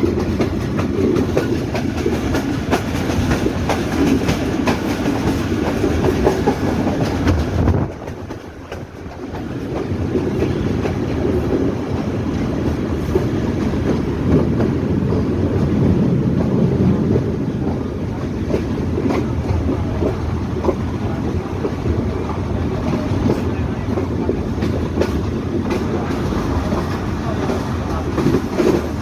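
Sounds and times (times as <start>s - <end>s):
train wheels clattering on rails: 0.0s - 29.0s.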